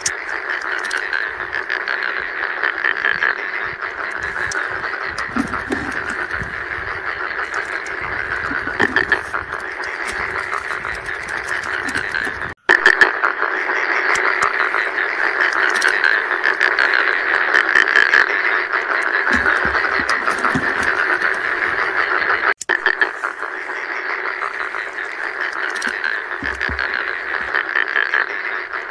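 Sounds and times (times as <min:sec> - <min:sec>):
chorus of frogs calling: 0:00.0 - 0:28.9.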